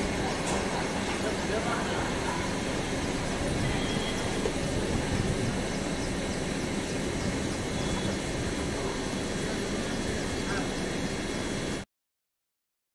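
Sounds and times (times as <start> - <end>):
train rumbling on track: 0.0 - 11.8.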